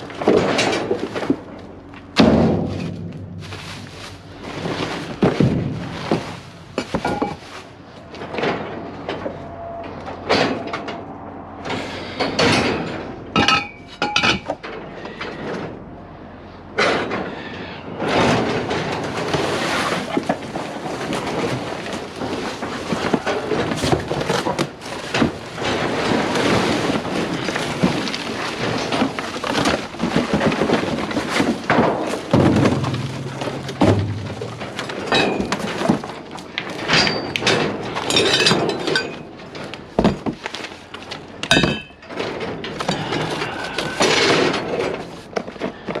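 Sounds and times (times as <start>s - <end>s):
scrap metal clanking: 0.0s - 15.8s, 16.7s - 46.0s.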